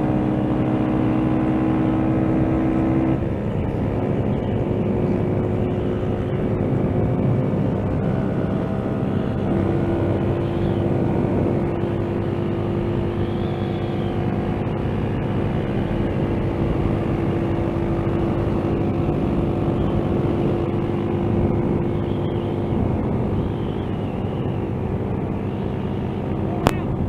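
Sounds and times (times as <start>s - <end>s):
motorcycle engine running: 0.0s - 27.0s
wind rush on microphone: 2.2s - 27.0s.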